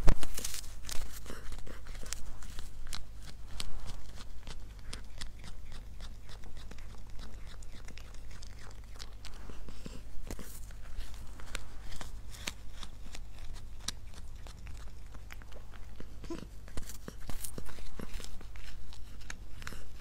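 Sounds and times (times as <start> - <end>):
cat crunching chew stick: 0.0 - 20.0.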